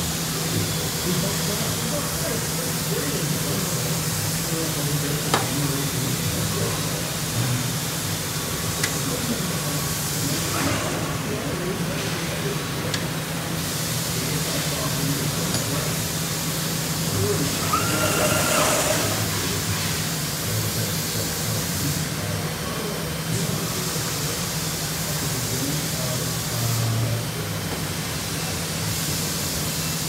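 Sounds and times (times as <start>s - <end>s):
laser cutter hissing: 0.0s - 27.2s.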